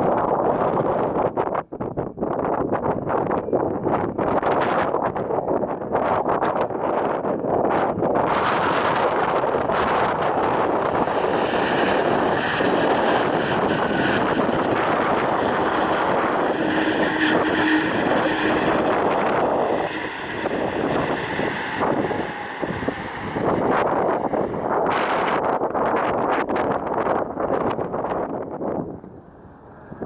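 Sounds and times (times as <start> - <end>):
jet engines rushing: 5.5 - 30.0.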